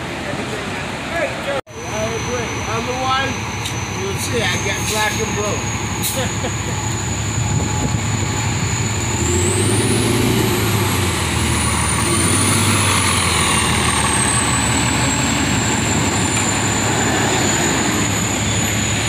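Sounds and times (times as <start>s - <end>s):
vehicle engine hum: 0.0s - 19.0s
high-pitched whine: 1.7s - 19.0s.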